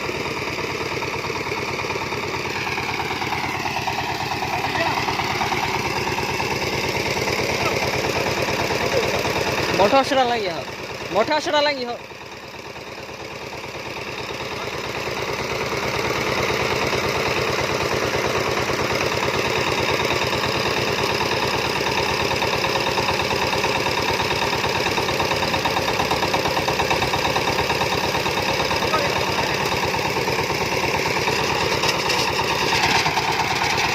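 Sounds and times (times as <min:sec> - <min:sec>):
diesel engine thumping: 0:00.0 - 0:11.6, 0:12.3 - 0:33.9.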